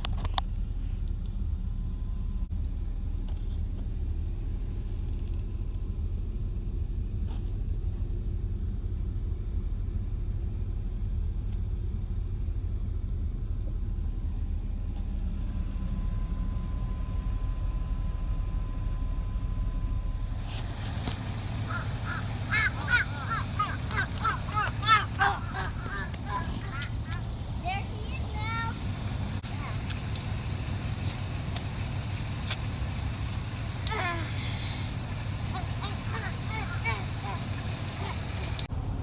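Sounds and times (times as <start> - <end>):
car engine and tyre noise: 0.0 - 39.0.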